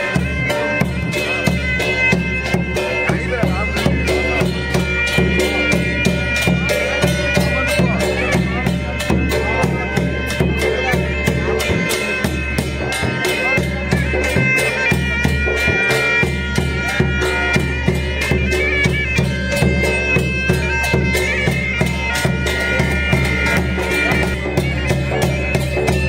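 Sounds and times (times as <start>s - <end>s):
fast steady drumbeat: 0.0s - 26.0s
reed wind instrument: 0.0s - 26.0s.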